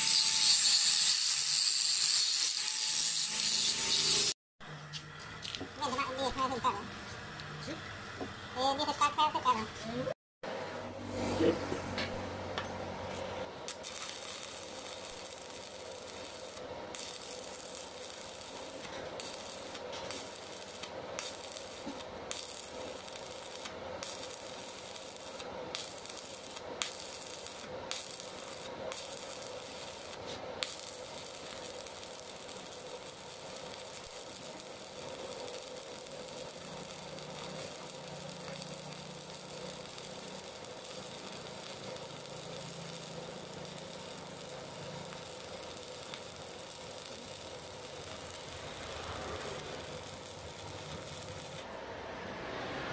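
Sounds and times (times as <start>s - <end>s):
arc welding hiss: 0.0s - 4.4s, 13.6s - 51.7s.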